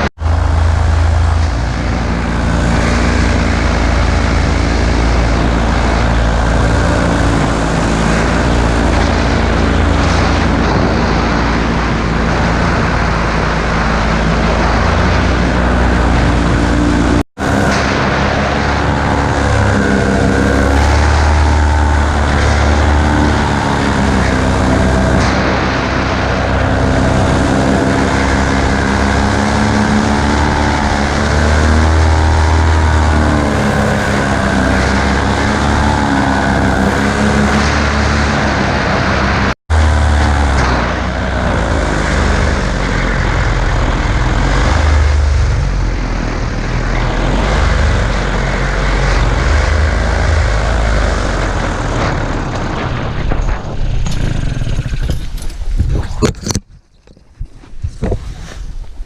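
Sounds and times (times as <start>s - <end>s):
paramotor engine and propeller: 0.0s - 58.8s
wind noise on microphone: 0.0s - 59.0s.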